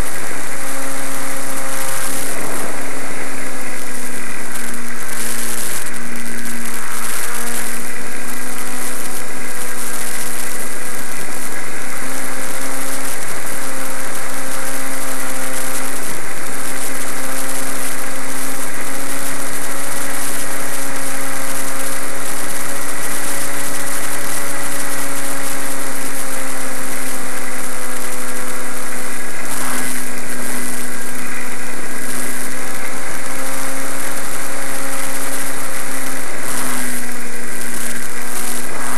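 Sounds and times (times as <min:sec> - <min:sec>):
model plane motor drone: 0:00.0 - 0:38.9.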